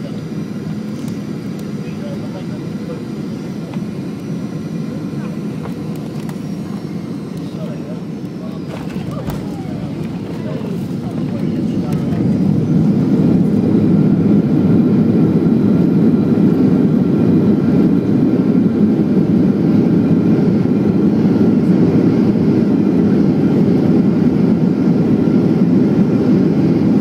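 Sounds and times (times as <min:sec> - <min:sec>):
jet cabin deep rumble: 0:00.0 - 0:27.0.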